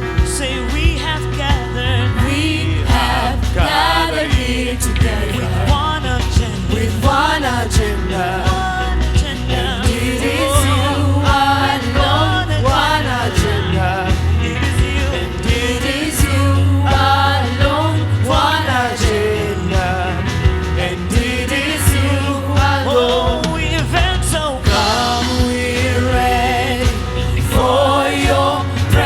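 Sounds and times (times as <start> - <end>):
band playing worship song: 0.0 - 29.0
drum beats: 0.0 - 29.0
person singing: 0.0 - 29.0
steady bass line: 0.0 - 29.0.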